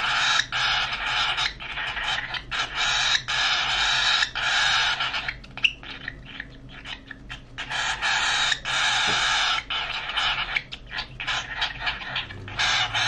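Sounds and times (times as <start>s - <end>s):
chick raspy begging calls: 0.0s - 13.0s.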